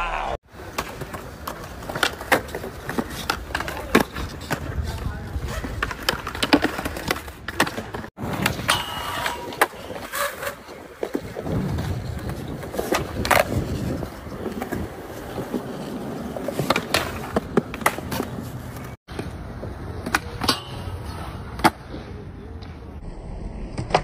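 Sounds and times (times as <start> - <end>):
skateboard wheels rolling on concrete: 0.2 - 24.0.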